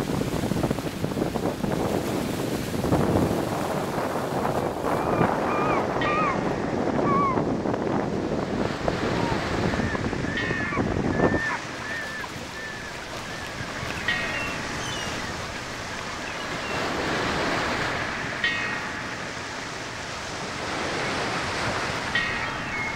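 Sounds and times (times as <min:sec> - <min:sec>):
surf washing on beach: 0:00.0 - 0:22.9
wind buffeting microphone: 0:00.0 - 0:22.9.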